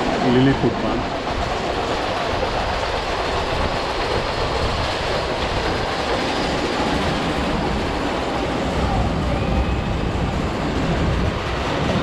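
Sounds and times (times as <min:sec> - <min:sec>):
miniature train rumbling past: 0:00.0 - 0:12.0.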